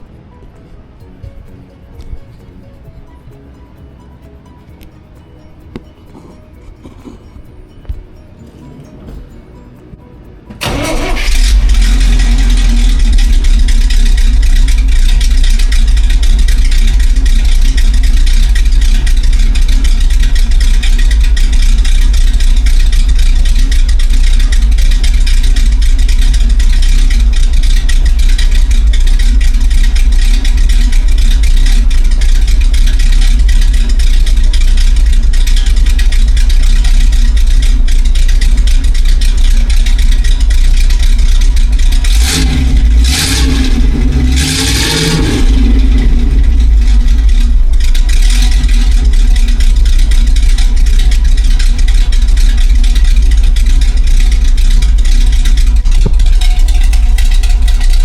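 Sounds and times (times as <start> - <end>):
truck engine exhaust rumble: 0.0 - 58.0.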